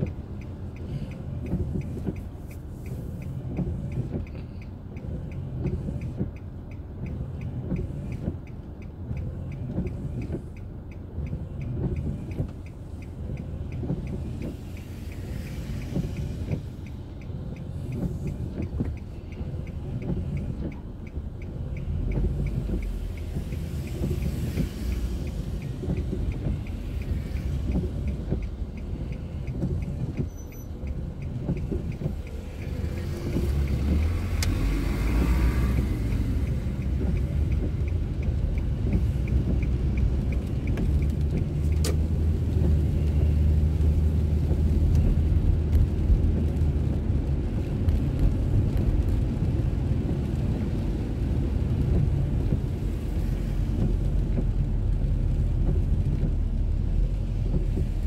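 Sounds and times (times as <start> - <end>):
car engine and tyres rumbling: 0.0 - 58.0
faint regular ticking: 0.0 - 58.0.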